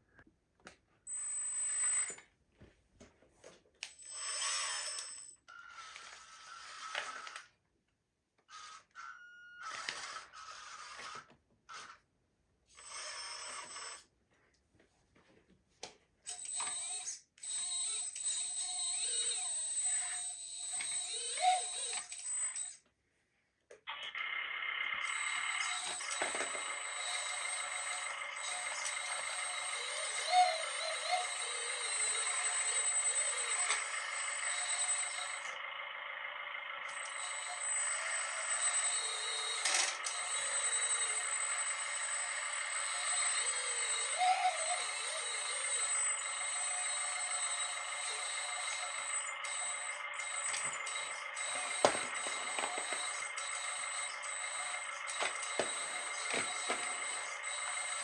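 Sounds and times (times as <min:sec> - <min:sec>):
small electric motors whining: 0:01.1 - 0:02.3, 0:03.4 - 0:07.6, 0:08.4 - 0:12.1, 0:12.7 - 0:14.2, 0:16.2 - 0:23.0, 0:23.7 - 0:58.0.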